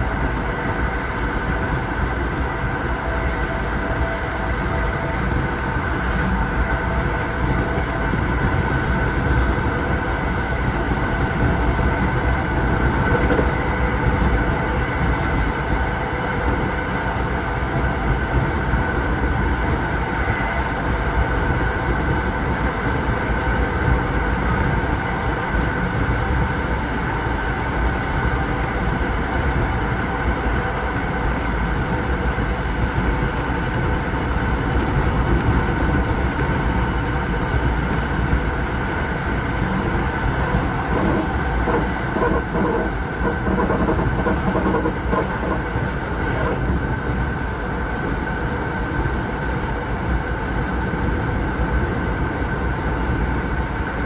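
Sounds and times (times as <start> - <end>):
train rumble inside carriage: 0.0 - 54.0.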